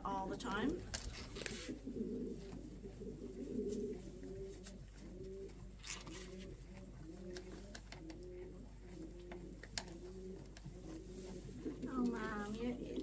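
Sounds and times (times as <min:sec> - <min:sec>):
pigeons cooing: 0:00.7 - 0:13.0.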